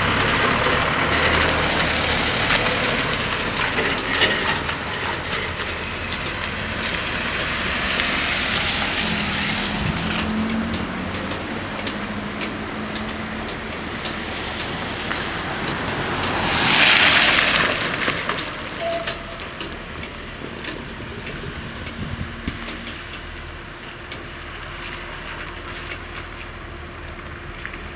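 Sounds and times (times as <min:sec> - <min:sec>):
car passing close: 0:00.0 - 0:27.9
vehicles over level crossing: 0:00.0 - 0:27.9.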